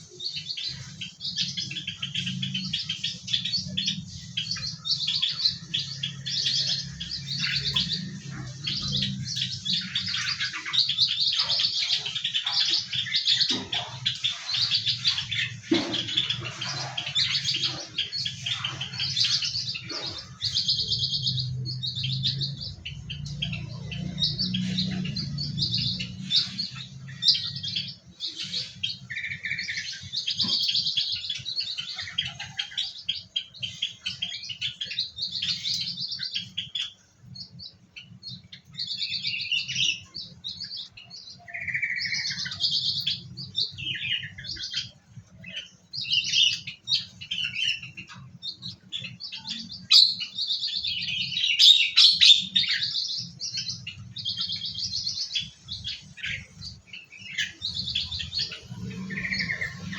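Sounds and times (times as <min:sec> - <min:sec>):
small birds chirping and twittering: 0:00.0 - 0:59.9.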